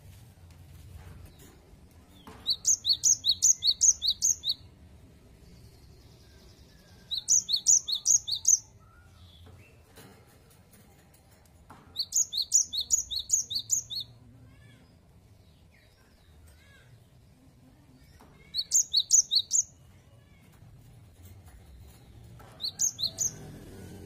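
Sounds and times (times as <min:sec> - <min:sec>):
soft bird chirps: 0:01.3 - 0:04.7, 0:05.4 - 0:09.9, 0:11.9 - 0:23.6.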